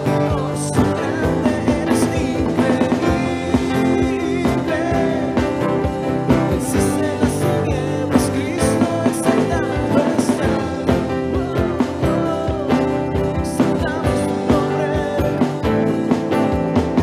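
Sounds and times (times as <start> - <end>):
acoustic guitar: 0.0 - 17.0
keyboard: 0.0 - 17.0
person singing: 0.0 - 17.0.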